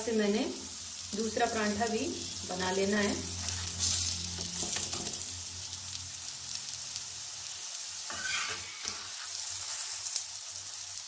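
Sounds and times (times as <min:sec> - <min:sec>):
flatbread sizzling in ghee: 0:00.0 - 0:11.0.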